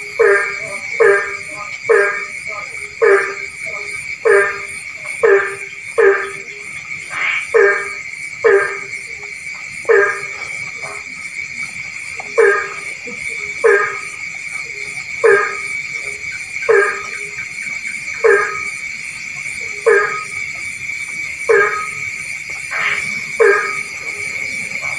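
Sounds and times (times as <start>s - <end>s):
high-pitched trilling chorus: 0.0s - 11.1s, 12.2s - 17.5s, 18.1s - 18.8s, 19.6s - 20.5s, 21.5s - 24.9s
frog croaking: 0.0s - 24.9s.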